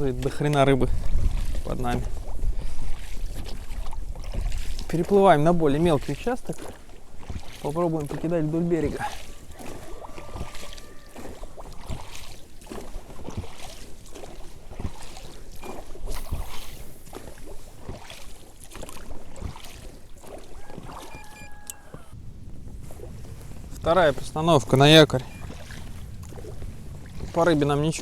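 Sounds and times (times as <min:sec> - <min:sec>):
oars knocking: 0:00.0 - 0:28.0
oars splashing in water: 0:00.0 - 0:28.0.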